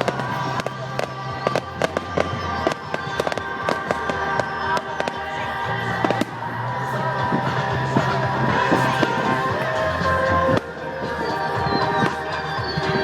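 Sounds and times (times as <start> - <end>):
fireworks crackling and banging: 0.0 - 13.0
music with long held notes: 0.0 - 13.0.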